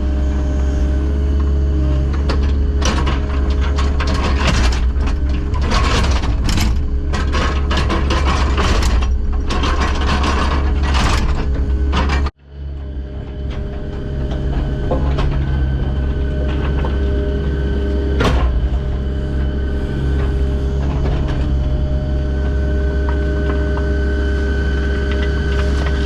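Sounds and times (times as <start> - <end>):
heavy machine engine running: 0.0 - 26.0
metallic clanking and scraping: 1.4 - 12.4, 13.2 - 26.0.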